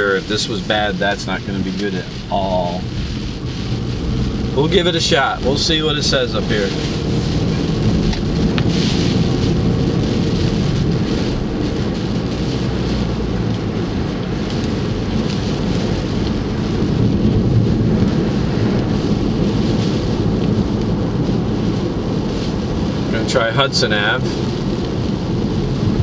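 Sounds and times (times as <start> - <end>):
car road and engine rumble: 0.0 - 26.0
rain hissing on car: 0.0 - 26.0.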